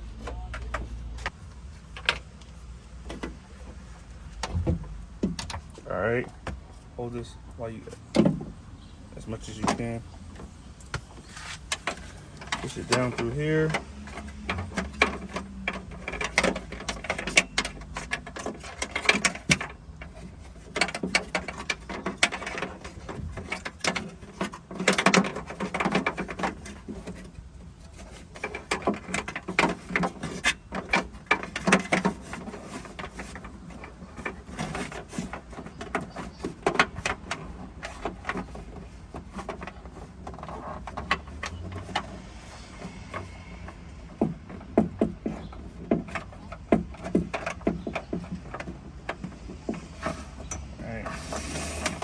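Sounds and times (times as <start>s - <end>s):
wire clicking and scraping in hinge: 9.2s - 52.0s.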